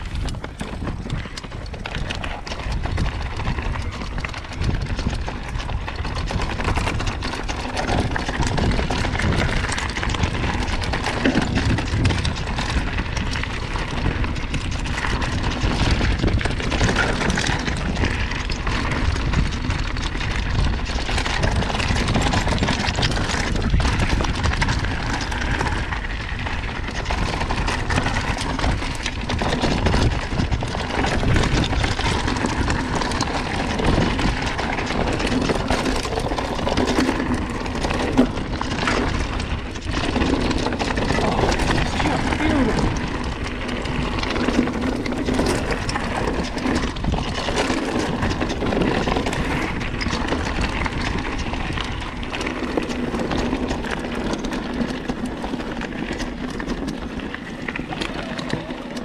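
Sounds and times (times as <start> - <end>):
bike rattling and knocking: 0.0 - 59.0
tyres on dirt and rock: 0.0 - 59.0
wind buffeting microphone: 0.0 - 59.0.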